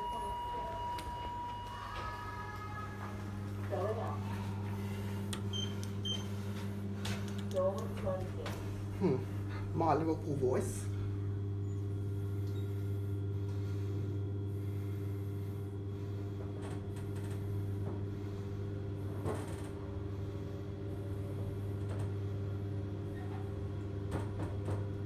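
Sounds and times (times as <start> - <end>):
lift hum: 0.0 - 25.0.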